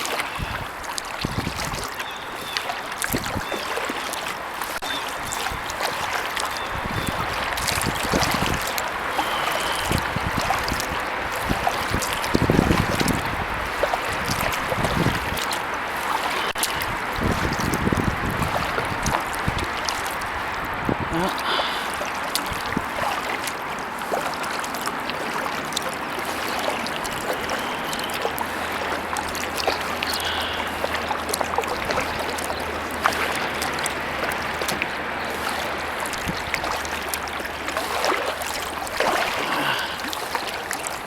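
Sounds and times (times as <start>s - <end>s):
small water splashes: 0.0s - 41.0s
water dripping off paddles: 0.0s - 41.0s.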